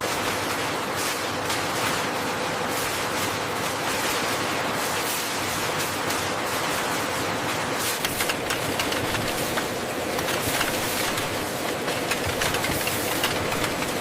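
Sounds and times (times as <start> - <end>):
machinery clicks and clatter: 0.0 - 14.0
machinery humming and hissing: 0.1 - 14.0.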